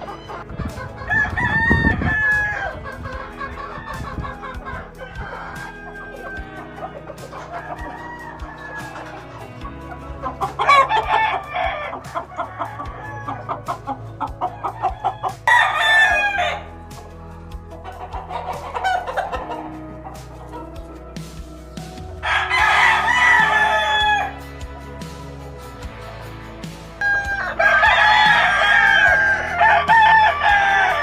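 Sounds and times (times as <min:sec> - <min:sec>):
chickens clucking: 0:00.0 - 0:31.0
roosters crowing: 0:00.0 - 0:31.0.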